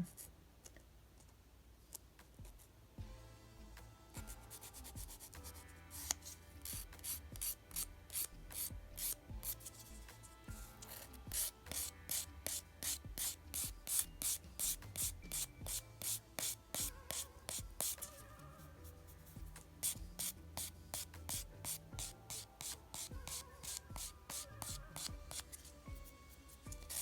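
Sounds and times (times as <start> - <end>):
nail file rubbing a nail: 4.2 - 27.0.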